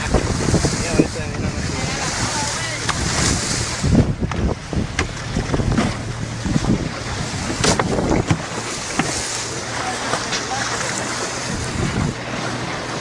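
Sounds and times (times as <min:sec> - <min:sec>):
boat motor rumbling: 0:00.0 - 0:13.0
rushing water: 0:00.0 - 0:13.0
water slapping hull: 0:00.0 - 0:13.0
wind buffeting microphone: 0:00.0 - 0:13.0.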